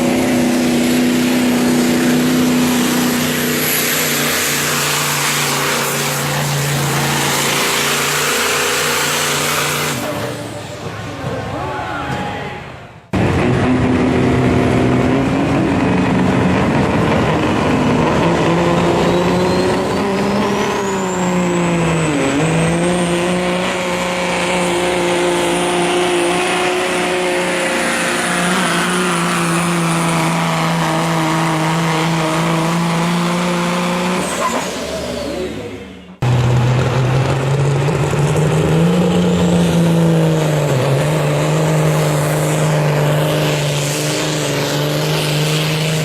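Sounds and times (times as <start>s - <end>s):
diesel truck engine under load: 0.0s - 11.6s, 13.0s - 46.0s.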